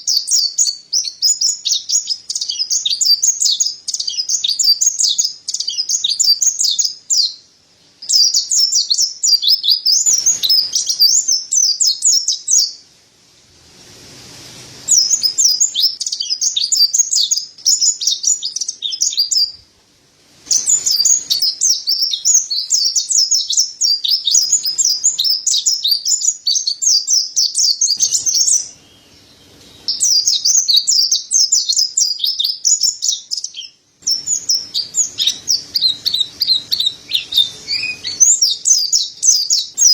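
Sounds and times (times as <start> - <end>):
bird twittering song: 0.0 - 12.8, 14.9 - 19.7, 20.5 - 39.9.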